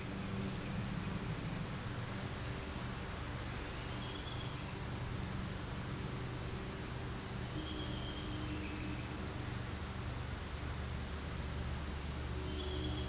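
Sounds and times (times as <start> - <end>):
background noise with low hum: 0.0 - 13.0.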